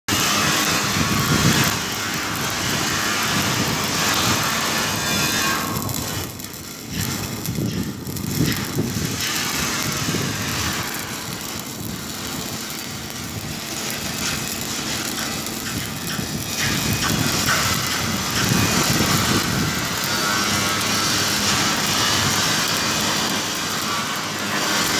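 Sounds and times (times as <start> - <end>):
welding arc crackling: 0.1 - 24.9.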